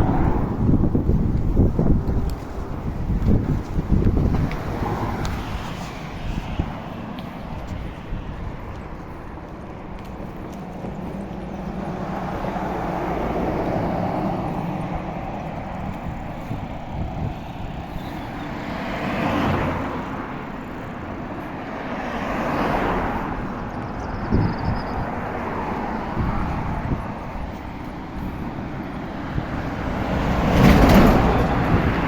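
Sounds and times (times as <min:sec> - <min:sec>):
steady low traffic rumble: 0:00.0 - 0:32.0
vehicles passing: 0:00.0 - 0:32.0.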